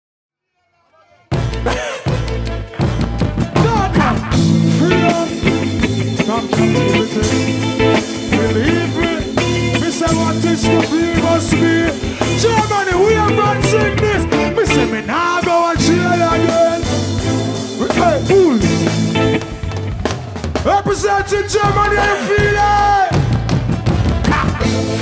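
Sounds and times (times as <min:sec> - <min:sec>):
live reggae band playing: 0:01.3 - 0:25.0
steady bass line: 0:01.4 - 0:20.8, 0:21.5 - 0:25.0.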